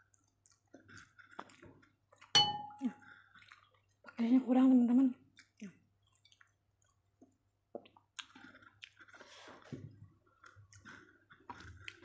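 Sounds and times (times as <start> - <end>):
chewing and wet mouth sounds: 0.0 - 12.0.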